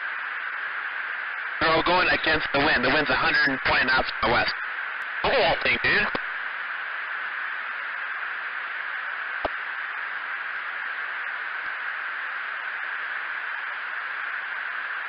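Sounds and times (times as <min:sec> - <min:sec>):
radio intercom hiss: 0:00.0 - 0:15.0.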